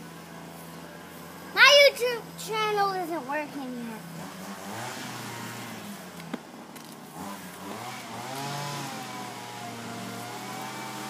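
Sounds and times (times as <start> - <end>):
motor engine running: 0.0 - 11.0.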